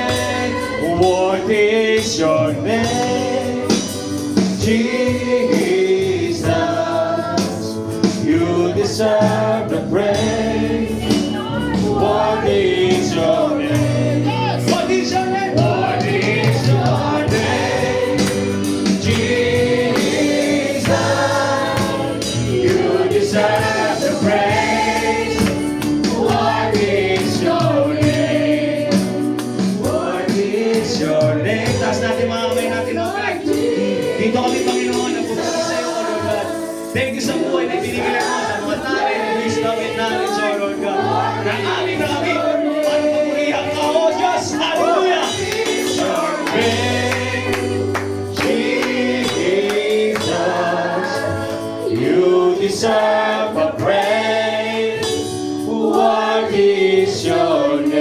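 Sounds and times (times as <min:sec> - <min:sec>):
band playing: 0:00.0 - 0:58.0
choir and congregation singing: 0:00.0 - 0:58.0
tambourine: 0:00.0 - 0:58.0.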